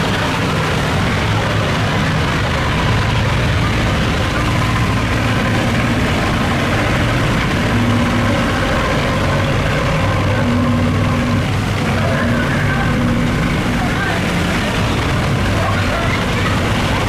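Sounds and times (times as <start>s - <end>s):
boat engines humming: 0.0s - 17.0s.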